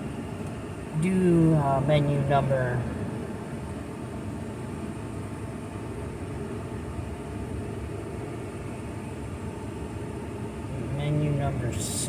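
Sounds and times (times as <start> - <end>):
air conditioning fan hiss: 0.0 - 12.0.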